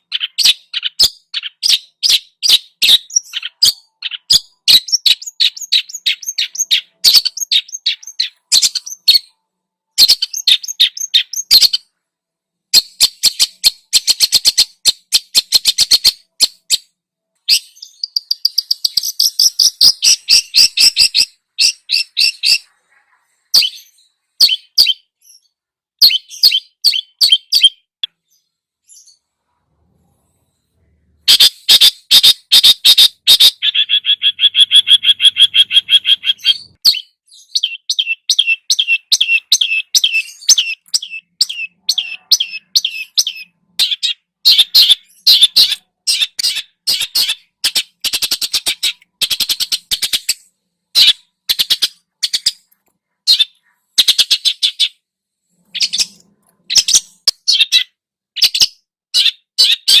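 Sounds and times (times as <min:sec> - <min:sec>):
songbird harsh chattering song: 0:00.0 - 0:11.9, 0:12.8 - 0:29.2, 0:31.3 - 0:52.7, 0:55.7 - 1:00.0.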